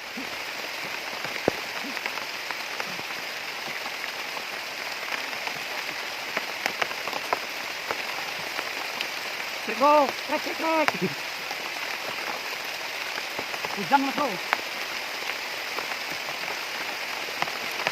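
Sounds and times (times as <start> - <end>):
sharp raindrop impacts: 0.0 - 17.9
steady rain hissing: 0.0 - 17.9.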